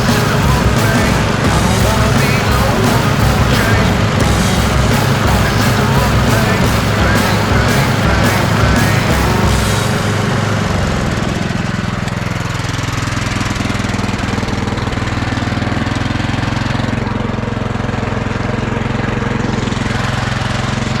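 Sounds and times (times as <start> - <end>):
small engines running: 0.0 - 21.0.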